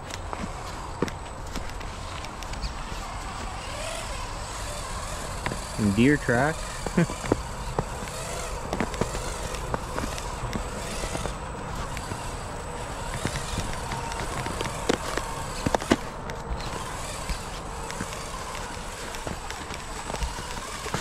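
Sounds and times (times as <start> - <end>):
footsteps crunching on snow: 0.0 - 21.0
toy car tyres crunching: 0.0 - 21.0.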